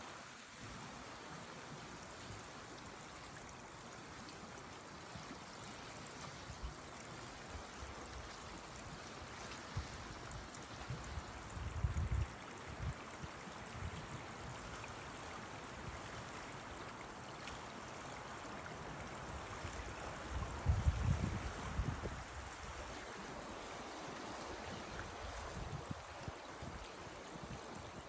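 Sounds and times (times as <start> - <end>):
stream of running water: 0.0 - 28.0.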